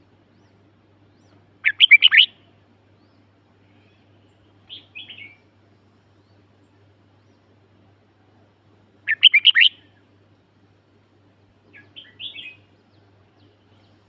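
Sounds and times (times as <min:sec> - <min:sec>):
songbird singing: 0:00.0 - 0:10.3, 0:11.3 - 0:14.0.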